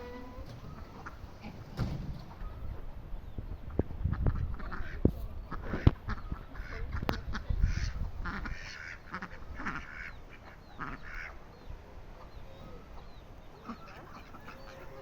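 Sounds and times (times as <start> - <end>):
birds making harsh calls: 0.0 - 15.0.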